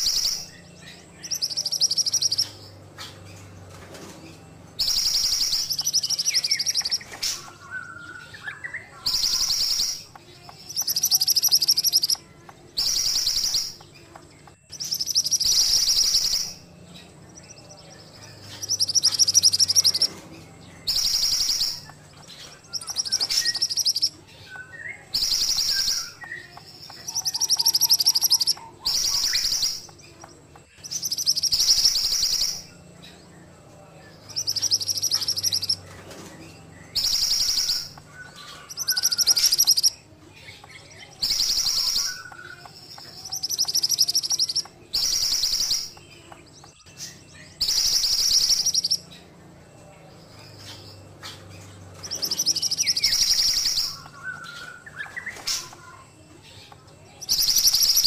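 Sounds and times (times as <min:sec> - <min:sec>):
bird singing trilled phrases: 0:00.0 - 0:58.0.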